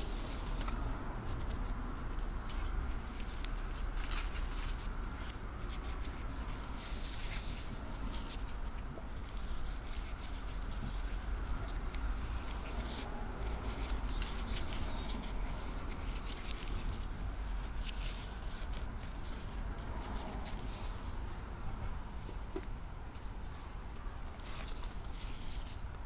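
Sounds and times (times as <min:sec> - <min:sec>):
low steady rumble: 0:00.0 - 0:26.0
nylon webbing rustling: 0:00.0 - 0:26.0.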